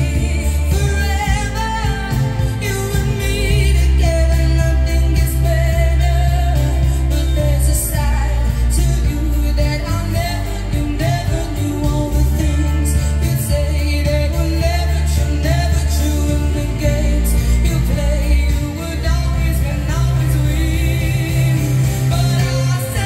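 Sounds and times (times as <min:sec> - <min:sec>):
pop song with singer: 0:00.0 - 0:23.0
steady bass line: 0:00.0 - 0:23.0.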